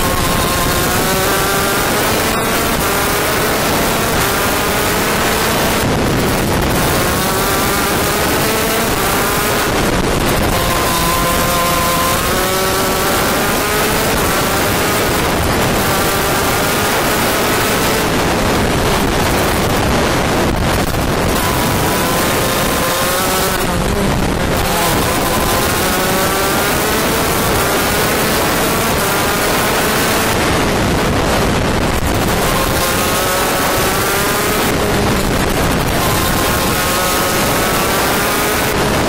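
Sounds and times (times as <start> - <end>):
kart engine revving: 0.0 - 39.0
wind noise on microphone: 0.0 - 39.0.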